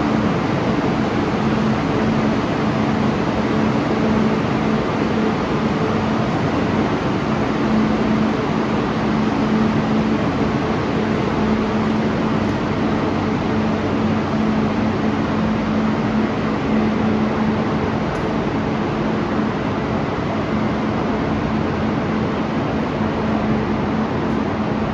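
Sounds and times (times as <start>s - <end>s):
constant low hum: 0.0s - 24.9s.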